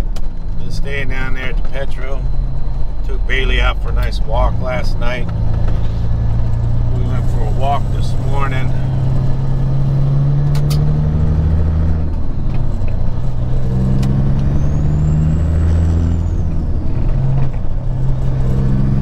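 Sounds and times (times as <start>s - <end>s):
road noise: 0.0s - 19.0s
truck diesel engine drone: 0.0s - 19.0s.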